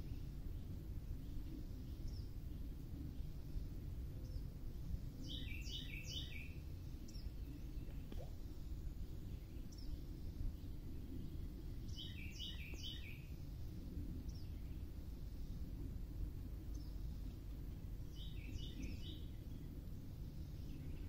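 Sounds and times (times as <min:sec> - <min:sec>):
low background rumble: 0:00.0 - 0:21.0
songbird singing: 0:00.0 - 0:21.0.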